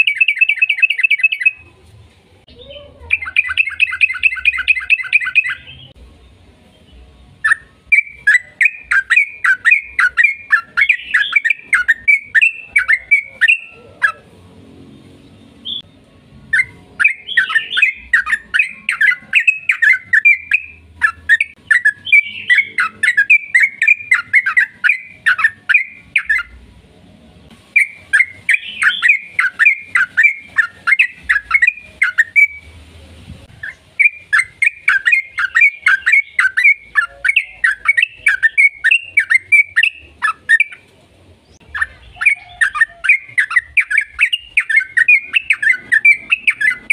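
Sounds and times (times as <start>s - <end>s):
bulbul chattering song: 0.0s - 1.8s, 2.5s - 14.4s, 15.2s - 26.7s, 27.6s - 46.9s.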